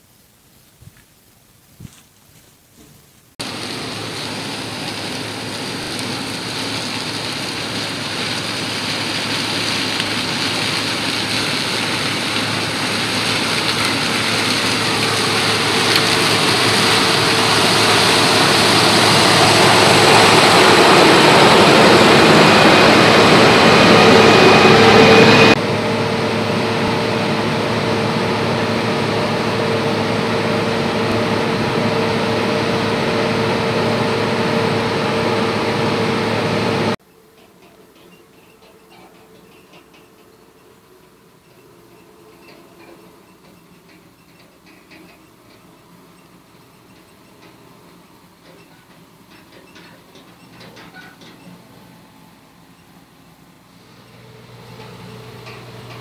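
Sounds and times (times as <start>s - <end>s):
grain auger hum: 2.8s - 56.0s
combine harvester running: 3.4s - 56.0s.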